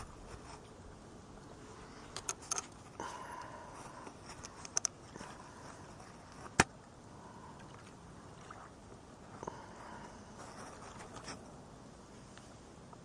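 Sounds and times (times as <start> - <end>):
flowing river: 0.0 - 13.0.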